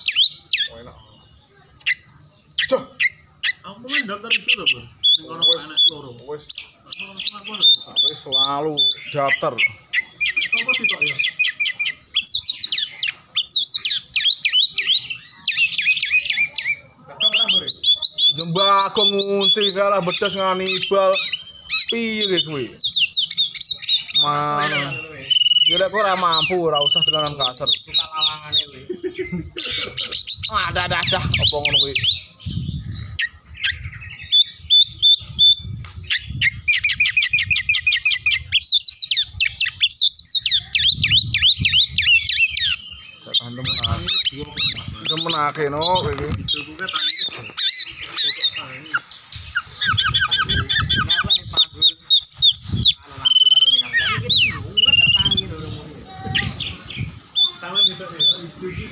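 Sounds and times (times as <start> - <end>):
bird singing whistled notes: 0.0 - 29.5, 30.2 - 58.9.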